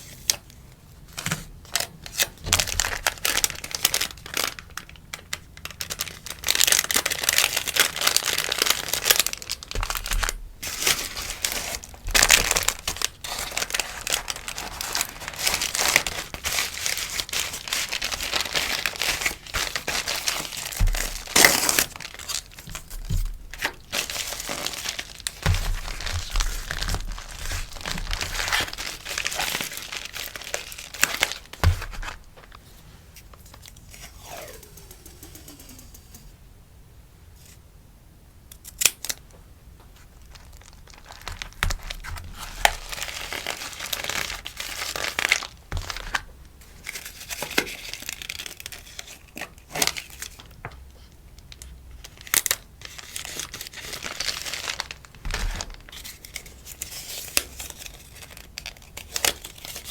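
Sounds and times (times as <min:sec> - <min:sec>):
packaging crinkling: 0:01.7 - 0:32.7, 0:40.0 - 0:50.6, 0:51.5 - 0:59.9.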